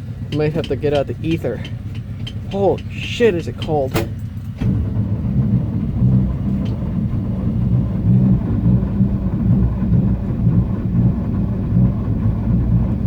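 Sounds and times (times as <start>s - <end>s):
starter cranking truck engine: 0.0s - 13.0s.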